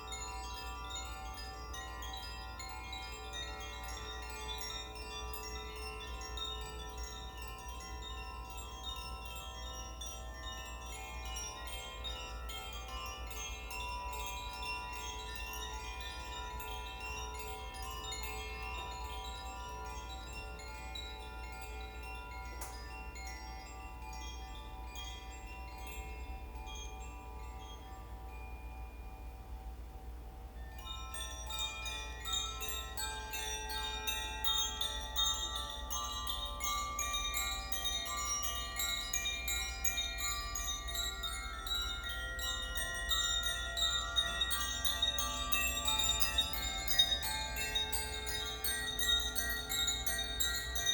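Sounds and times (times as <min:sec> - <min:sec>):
wind chimes ringing: 0:00.0 - 0:50.9.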